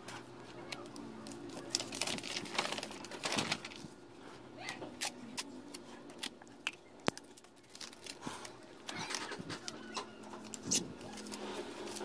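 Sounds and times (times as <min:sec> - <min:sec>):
paper and tape rustling: 0:00.0 - 0:04.0, 0:04.6 - 0:12.0.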